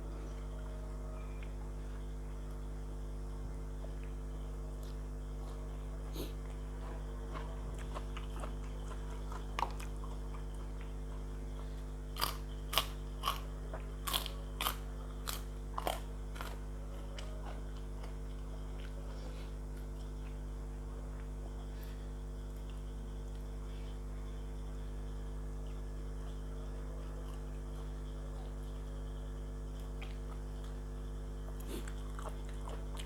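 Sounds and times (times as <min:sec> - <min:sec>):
crunching of crisp food: 0:00.0 - 0:23.8, 0:25.4 - 0:33.0
steady low hum: 0:00.0 - 0:33.0.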